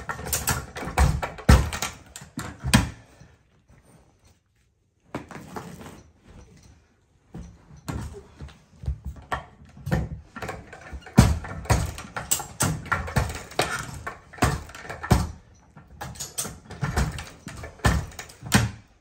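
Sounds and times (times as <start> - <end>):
carpet stretcher clacks and knocks: 0.0 - 3.3, 5.1 - 19.0.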